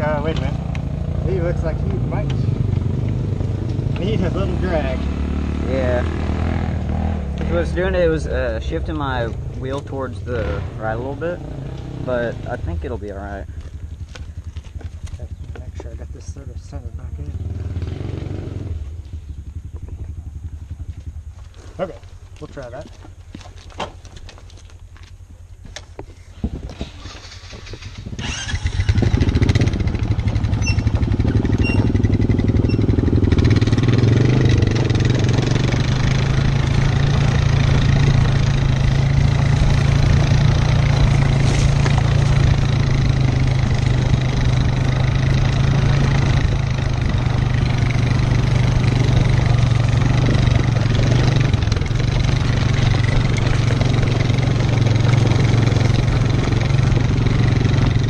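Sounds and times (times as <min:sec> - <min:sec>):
atv engine under load: 0:00.0 - 0:16.0, 0:26.4 - 0:58.0.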